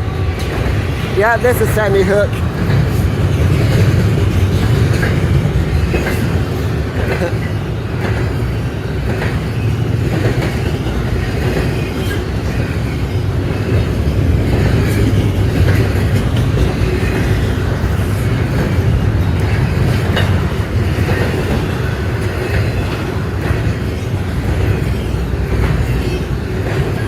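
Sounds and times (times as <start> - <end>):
freight train wheels rumbling: 0.0 - 27.0
wheels clicking and clacking: 2.6 - 27.0.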